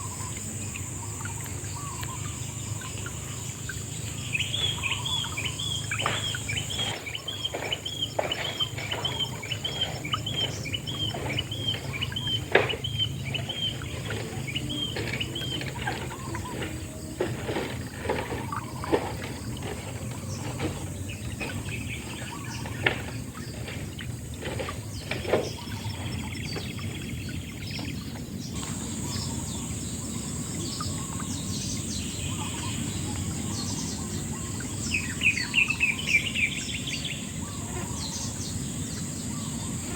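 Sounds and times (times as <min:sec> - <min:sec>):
bird chirping: 0:00.0 - 0:39.9
high insect whine: 0:00.0 - 0:39.9.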